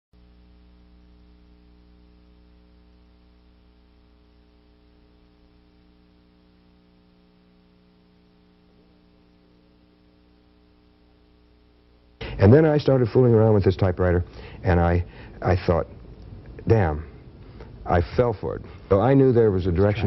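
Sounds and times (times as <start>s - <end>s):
electrical hum: 0.2s - 20.0s.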